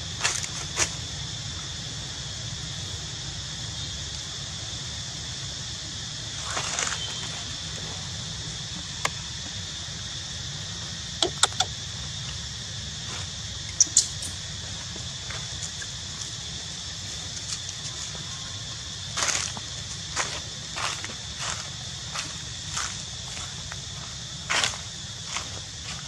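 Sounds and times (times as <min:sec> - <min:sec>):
faint high whine: 0:00.0 - 0:26.0
steady outdoor hiss: 0:00.0 - 0:26.0.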